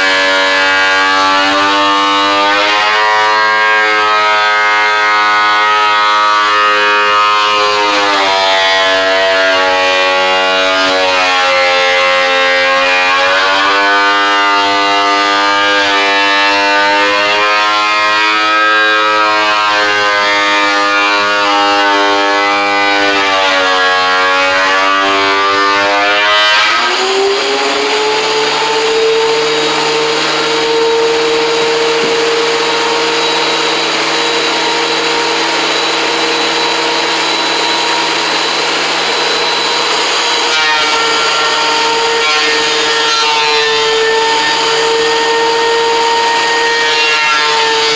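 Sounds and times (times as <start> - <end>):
woodworking machine motor running: 0.0 - 47.9.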